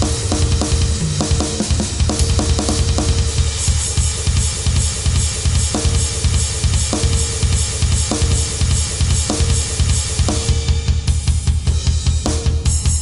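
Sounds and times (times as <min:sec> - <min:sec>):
drum kit beat: 0:00.0 - 0:13.0
hard rock music: 0:00.0 - 0:13.0.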